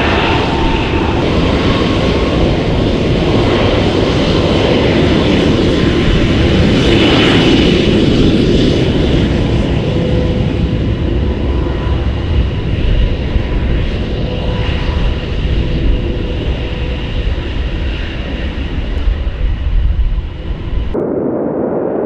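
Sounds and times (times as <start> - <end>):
jet engine roaring: 0.0 - 22.0.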